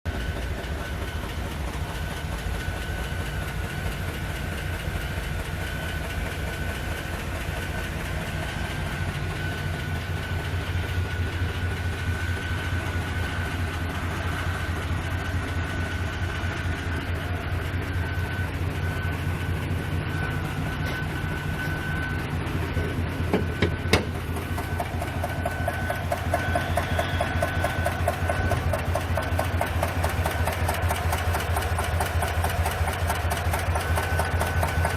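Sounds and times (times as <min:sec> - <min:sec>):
engine idling with fast ticking: 0:00.1 - 0:34.9.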